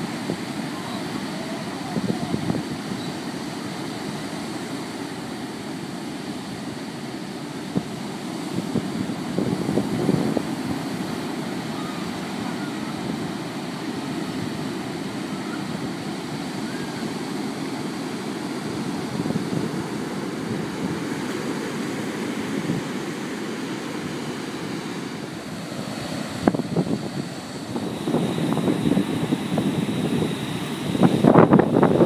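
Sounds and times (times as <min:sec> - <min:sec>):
wind buffeting microphone: 0:00.0 - 0:04.3, 0:06.6 - 0:23.0, 0:24.9 - 0:32.0
surf breaking on beach: 0:00.0 - 0:32.0.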